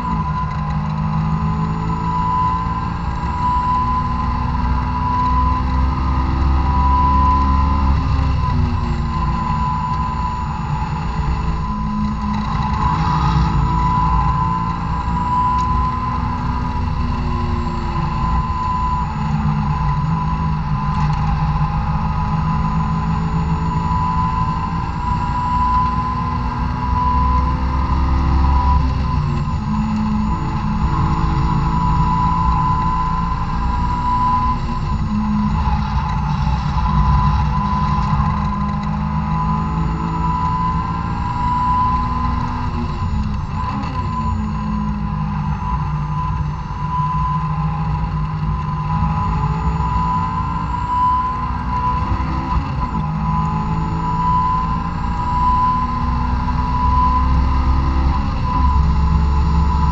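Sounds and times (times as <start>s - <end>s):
car engine at full throttle: 0.0s - 59.9s
steady high whine: 0.0s - 59.9s.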